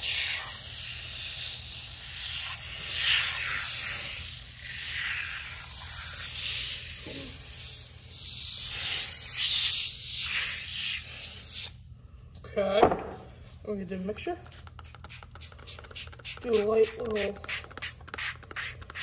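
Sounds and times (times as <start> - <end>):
spray can hissing: 0.0 - 11.7, 14.4 - 19.0.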